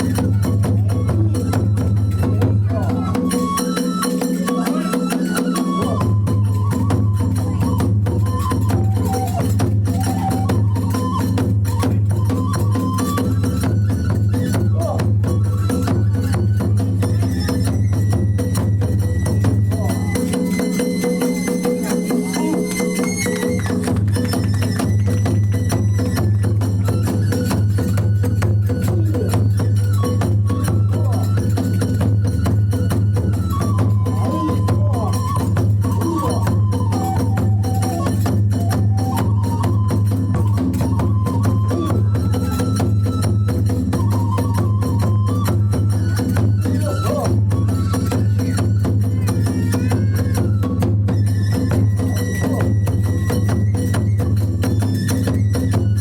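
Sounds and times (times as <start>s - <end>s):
drums beating: 0.0s - 56.0s
high flute melody: 0.0s - 56.0s
small hand cymbals: 0.0s - 56.0s.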